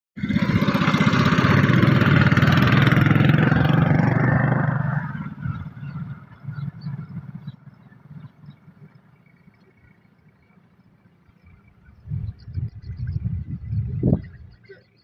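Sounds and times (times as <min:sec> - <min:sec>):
engine running with rough pulse: 0:00.2 - 0:15.0.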